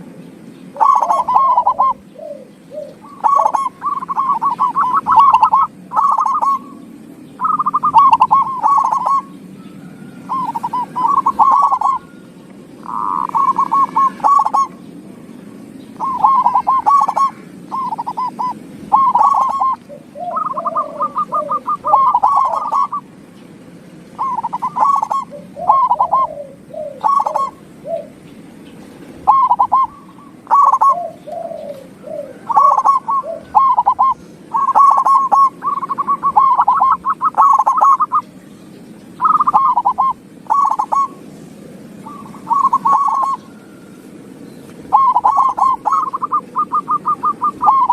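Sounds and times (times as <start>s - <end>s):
dove cooing: 0.0s - 23.4s, 24.0s - 47.9s
steady low hum: 0.0s - 47.9s.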